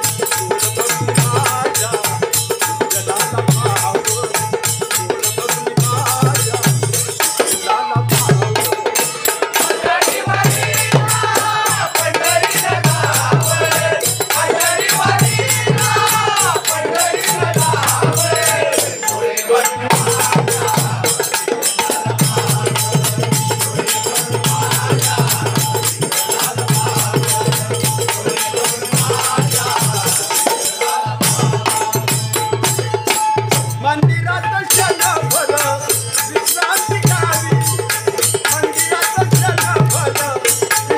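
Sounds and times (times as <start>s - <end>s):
jingling percussion: 0.0s - 40.9s
pulsing drum beat: 0.0s - 40.9s.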